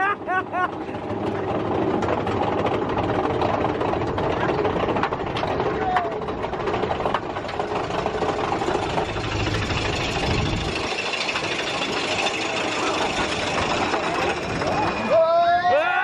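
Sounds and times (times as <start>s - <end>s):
roller coaster train rattling rumble: 0.0s - 16.0s.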